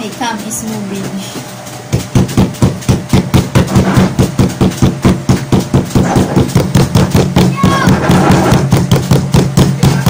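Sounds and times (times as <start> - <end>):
glass jar pounding cookies: 1.9 - 10.0.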